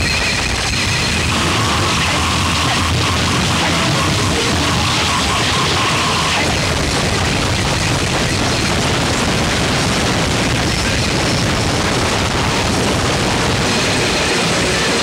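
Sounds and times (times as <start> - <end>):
steady distorted noise: 0.0 - 15.0.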